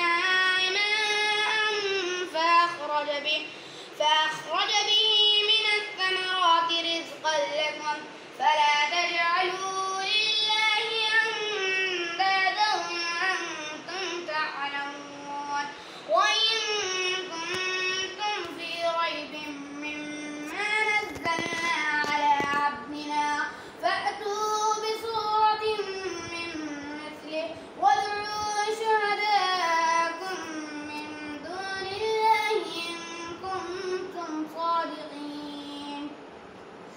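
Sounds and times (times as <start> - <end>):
child chanting recitation: 0.0 - 36.2.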